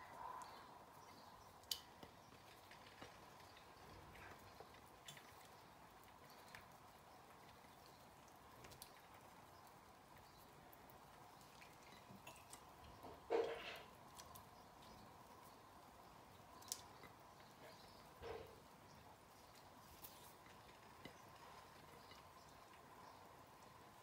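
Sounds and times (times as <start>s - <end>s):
hot oil frying: 0.9s - 24.0s.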